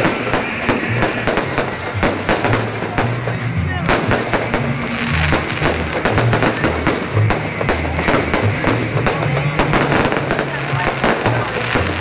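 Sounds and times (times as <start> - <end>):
fireworks bangs and crackling: 0.0 - 12.0
music with bass line: 0.0 - 12.0.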